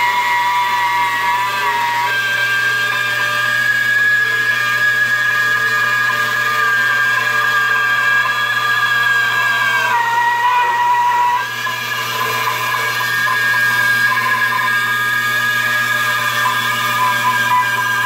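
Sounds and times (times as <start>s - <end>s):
band saw whining: 0.0s - 18.0s.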